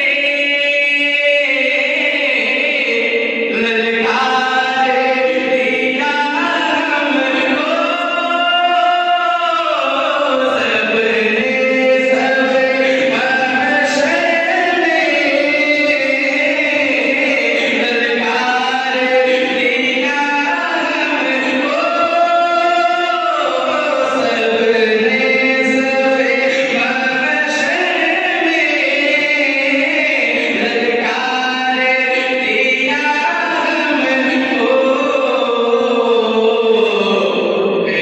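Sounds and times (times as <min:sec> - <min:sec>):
man chanting devotional poem over loudspeakers: 0:00.0 - 0:38.0.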